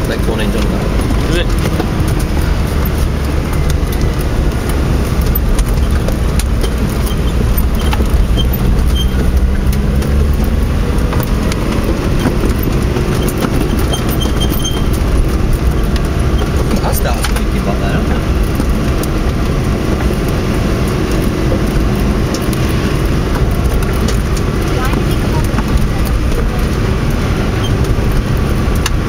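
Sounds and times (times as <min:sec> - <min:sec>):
engine and tyre rumble: 0:00.0 - 0:29.0.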